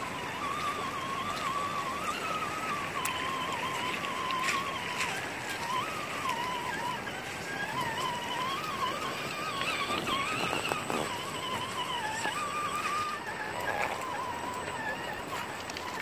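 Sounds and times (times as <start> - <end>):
electric motor whining: 0.0 - 16.0
running water hiss: 0.0 - 16.0.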